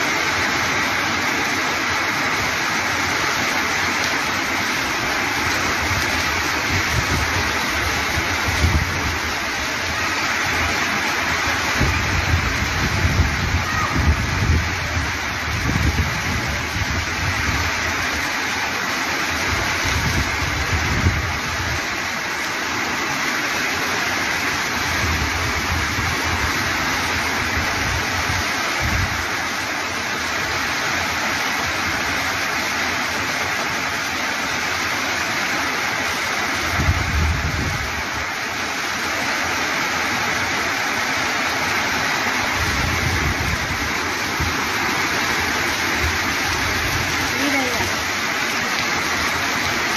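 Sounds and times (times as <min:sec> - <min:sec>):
torrential rain: 0:00.0 - 0:49.9.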